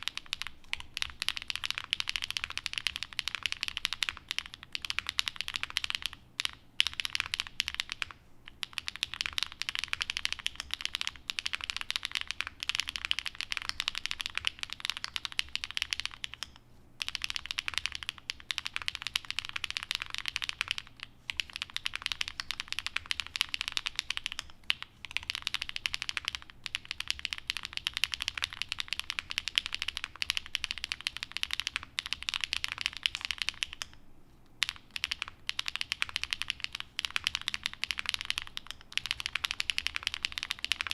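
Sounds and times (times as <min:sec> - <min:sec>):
fast mechanical keyboard typing: 0:00.0 - 0:34.0, 0:34.6 - 0:40.9.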